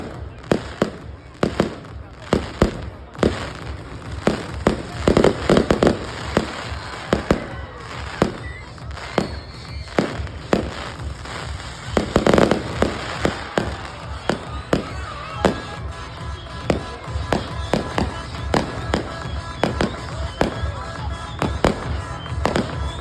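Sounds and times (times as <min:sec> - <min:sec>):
fireworks bangs and cracks: 0:00.0 - 0:23.0.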